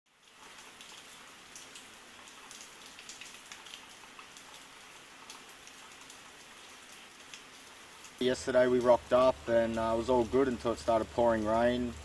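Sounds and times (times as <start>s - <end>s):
raindrops ticking: 0.1s - 12.0s
steady rain falling: 0.1s - 12.0s.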